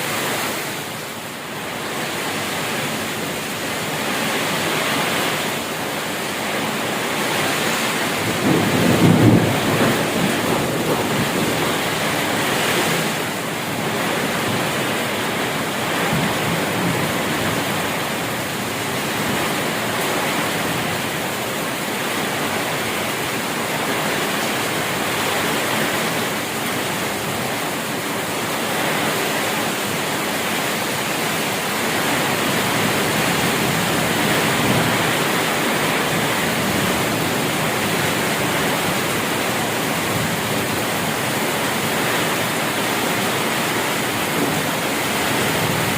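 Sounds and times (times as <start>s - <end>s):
heavy rain falling: 0.0s - 45.9s
wind: 0.0s - 45.9s.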